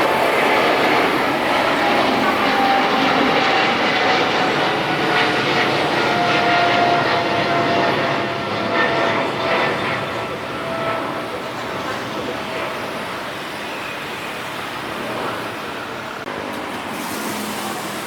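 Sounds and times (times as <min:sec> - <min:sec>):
jet airliner engines roaring: 0:00.0 - 0:18.0.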